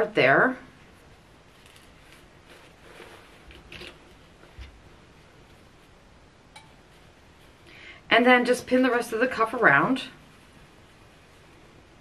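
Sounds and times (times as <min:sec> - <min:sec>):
shirt fabric rustling: 0:00.3 - 0:07.7, 0:08.3 - 0:12.0.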